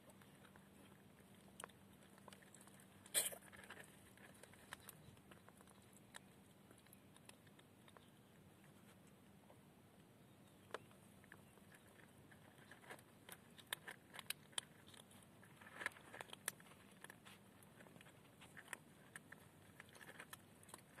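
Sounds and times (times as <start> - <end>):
faint clicks and crackles: 0.0 - 21.0.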